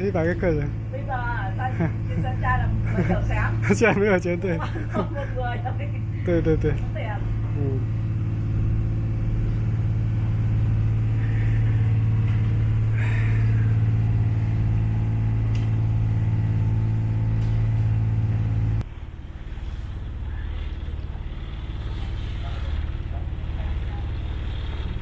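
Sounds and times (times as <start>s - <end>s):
boat engine droning: 0.0s - 25.0s
low rumble: 0.0s - 25.0s.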